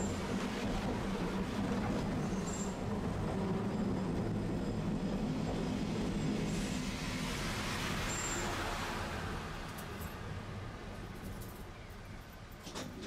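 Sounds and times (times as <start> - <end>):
streetcar hum and rumble: 0.0 - 13.0.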